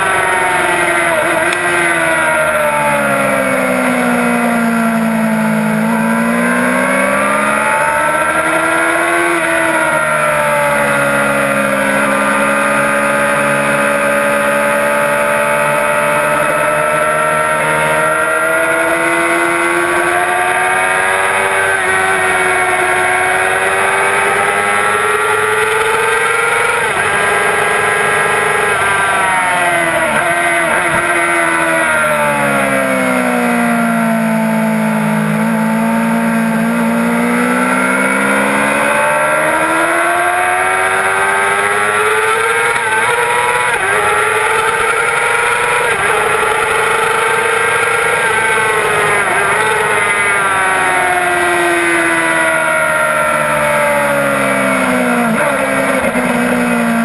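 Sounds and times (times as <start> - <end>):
motorcycle engine revving hard: 0.0 - 57.0.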